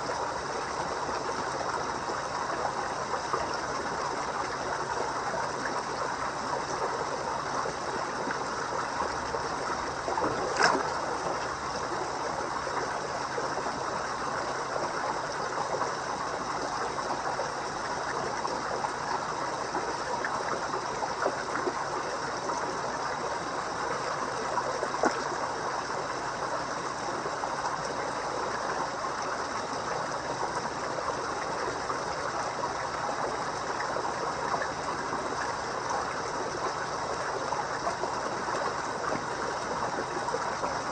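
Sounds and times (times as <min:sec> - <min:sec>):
pond water trickling and splashing: 0:00.0 - 0:40.9.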